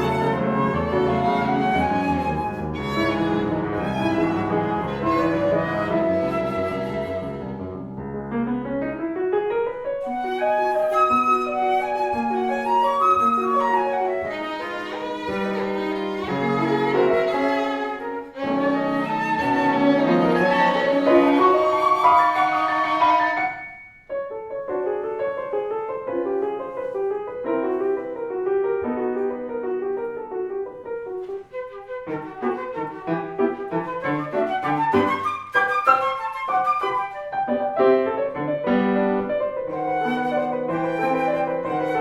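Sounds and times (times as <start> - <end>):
chamber trio playing classical music: 0.0 - 42.0.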